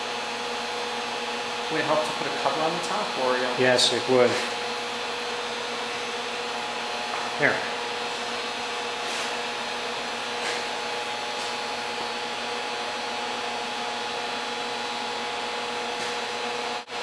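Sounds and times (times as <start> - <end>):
induction heater whirring hiss: 0.0 - 17.0.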